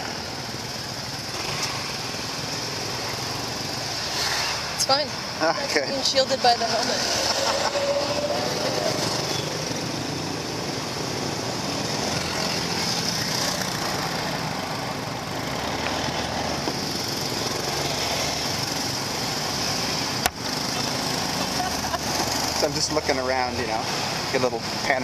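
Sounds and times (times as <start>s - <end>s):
small motorbike engine running: 0.0s - 10.2s, 11.5s - 25.0s
road and traffic noise: 0.0s - 25.0s.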